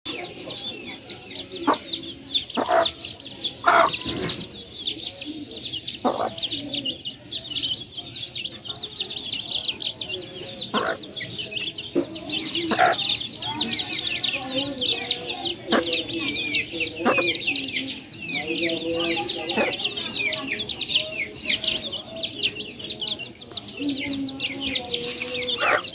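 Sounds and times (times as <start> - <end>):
chicks peeping: 0.1 - 25.9
hen clucking: 0.1 - 25.9.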